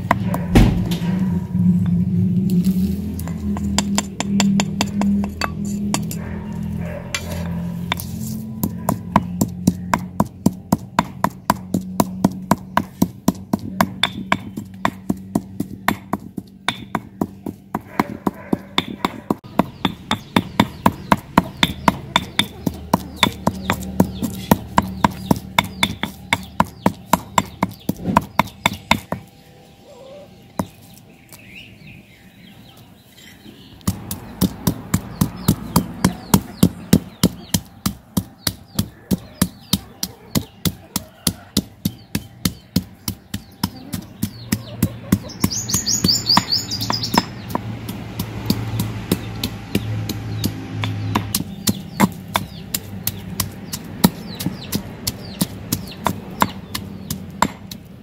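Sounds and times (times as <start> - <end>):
stone pestle pounding in mortar: 3.2 - 6.3, 7.1 - 29.3, 33.8 - 58.0.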